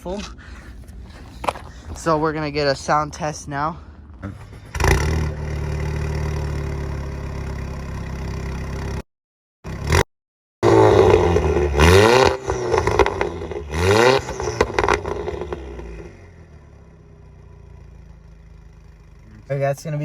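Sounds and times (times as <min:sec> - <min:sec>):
car engine idling: 0:00.0 - 0:09.0, 0:10.7 - 0:20.0
car engine revving: 0:00.4 - 0:09.0, 0:10.6 - 0:20.0.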